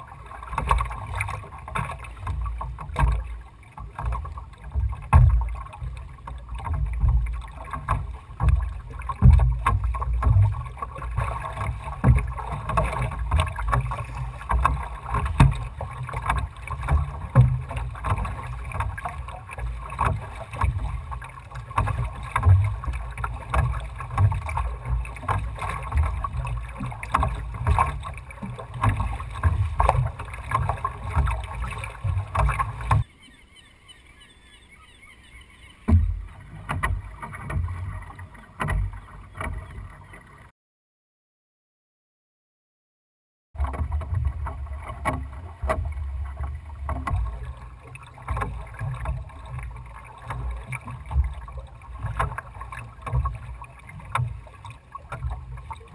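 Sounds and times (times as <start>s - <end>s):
water splashing along boat hull: 0.0s - 40.5s, 43.6s - 55.9s.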